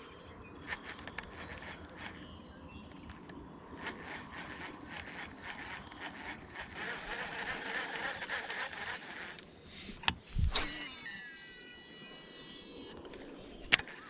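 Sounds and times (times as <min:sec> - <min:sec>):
fishing reel gears whirring: 0:00.6 - 0:14.0.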